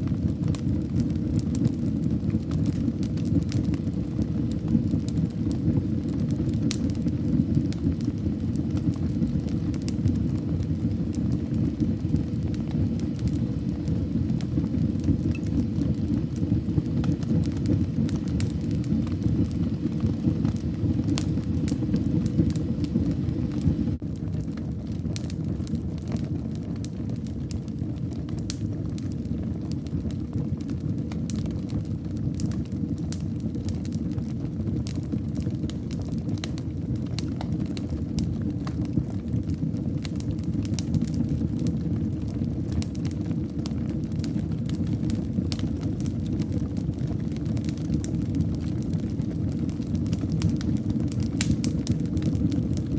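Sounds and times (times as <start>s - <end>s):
fire crackling and popping: 0.0s - 52.9s
flames rumbling: 0.0s - 52.9s.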